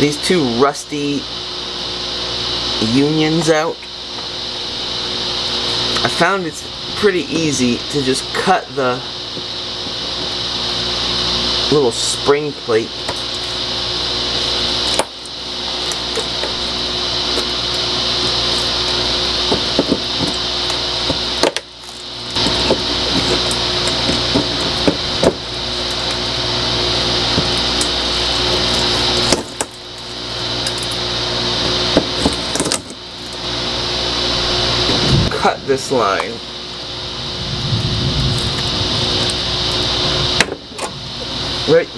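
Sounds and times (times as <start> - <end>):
fan-like hiss with hum: 0.0 - 41.9.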